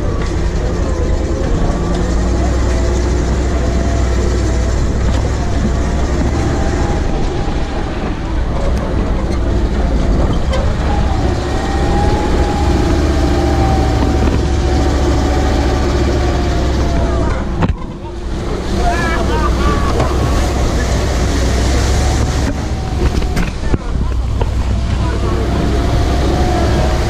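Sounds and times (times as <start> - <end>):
truck engine running: 0.0 - 27.0
tyre and road noise: 0.0 - 27.0.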